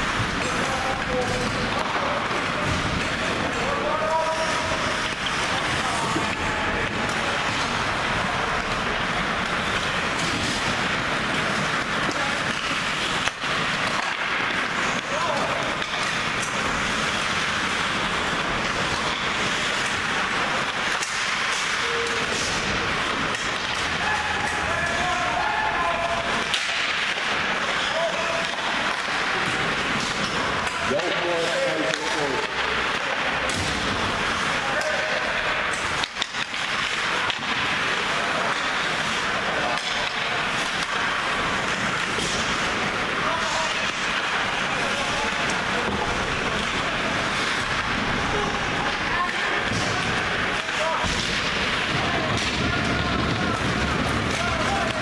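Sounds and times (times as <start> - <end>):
hockey sticks and puck clacking: 0.0 - 55.0.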